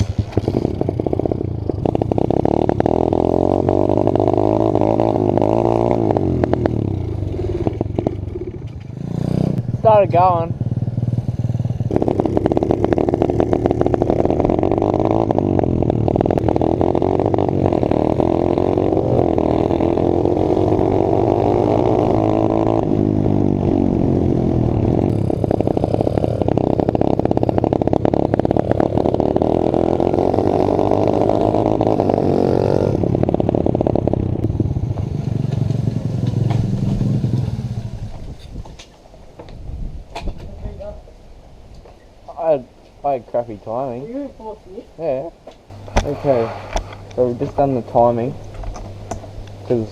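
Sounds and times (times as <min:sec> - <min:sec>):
pit bike engine revving: 0:00.0 - 0:38.4, 0:45.1 - 0:49.9.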